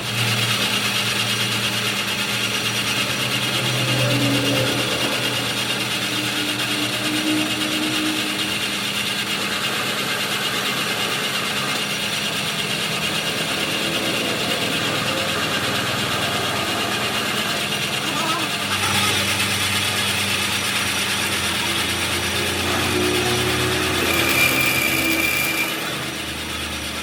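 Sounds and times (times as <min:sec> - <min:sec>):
workshop machinery running: 0:00.0 - 0:27.0.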